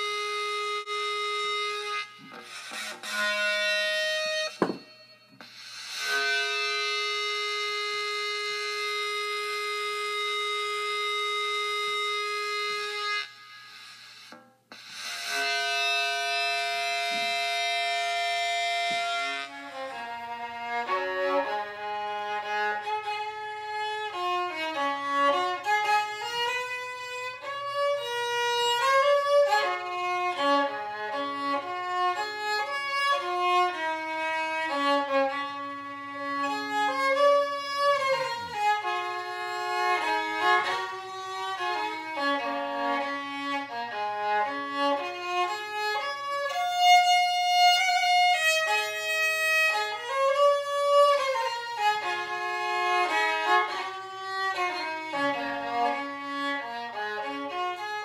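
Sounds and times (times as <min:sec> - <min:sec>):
solo violin slow melody: 0:00.0 - 0:58.0.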